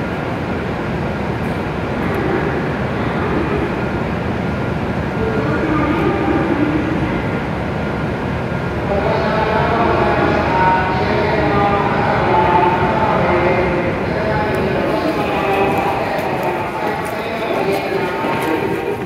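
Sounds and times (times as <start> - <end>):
multi-tone train whine: 0.0 - 19.0
train rumbling: 0.0 - 19.0.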